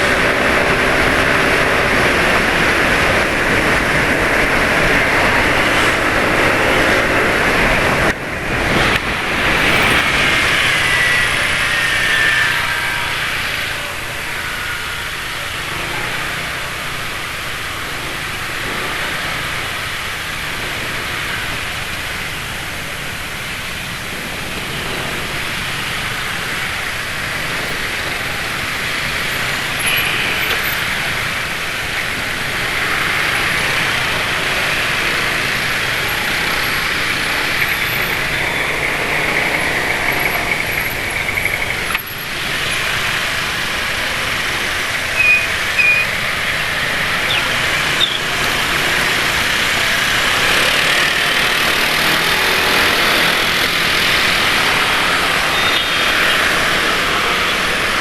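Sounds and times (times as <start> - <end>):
motorcycles in traffic: 0.0 - 58.0.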